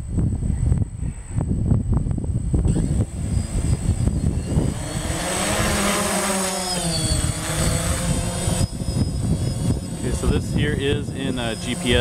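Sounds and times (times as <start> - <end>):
wind buffeting microphone: 0.0 - 12.0
quadcopter propellers whining: 1.4 - 12.0.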